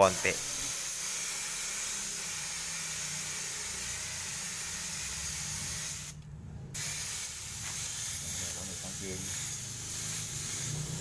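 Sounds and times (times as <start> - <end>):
paint spray gun hissing: 0.1 - 6.2, 6.8 - 11.0.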